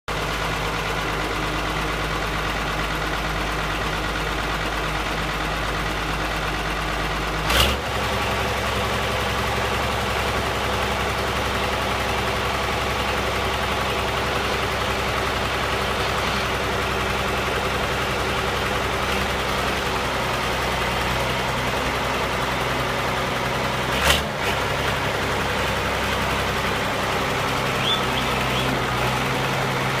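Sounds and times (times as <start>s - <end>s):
tractor diesel engine idling: 0.1s - 30.0s.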